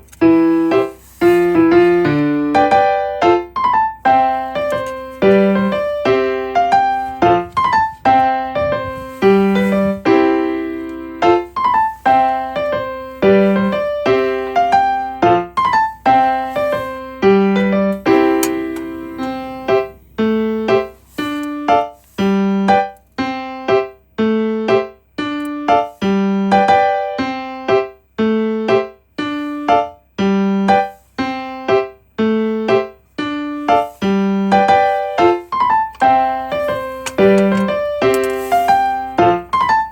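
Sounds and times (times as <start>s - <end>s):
gentle piano melody: 0.0s - 39.9s.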